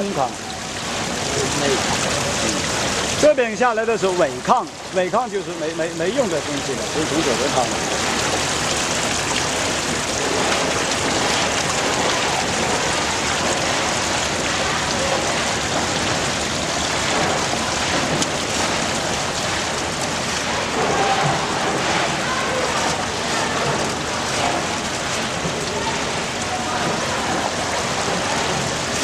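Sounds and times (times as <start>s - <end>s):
water and slurry splashing: 0.0s - 29.0s.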